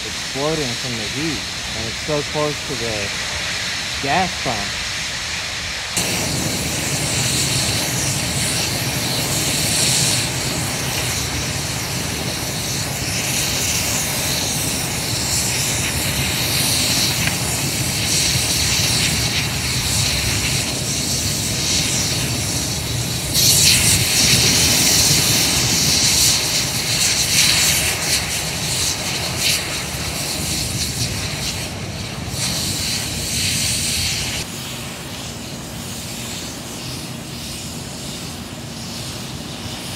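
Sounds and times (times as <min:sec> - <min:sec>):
fire burning with rushing noise: 0:00.0 - 0:39.9
fire engines rumbling: 0:00.0 - 0:39.9.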